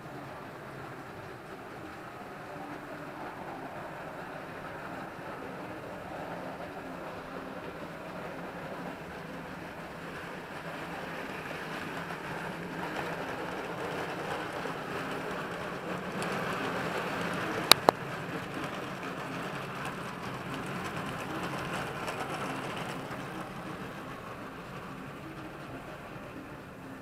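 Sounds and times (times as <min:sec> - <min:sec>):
model train wheels rattling on rail: 0:00.0 - 0:27.0.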